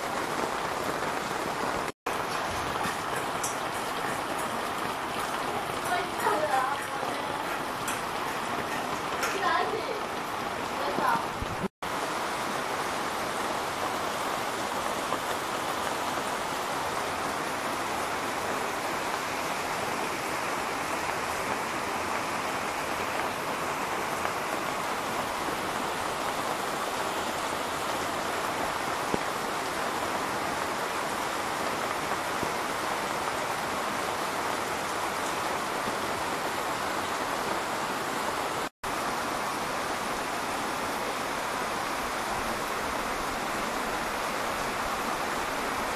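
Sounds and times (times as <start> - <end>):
rain falling on ground and roof: 0.0 - 45.9.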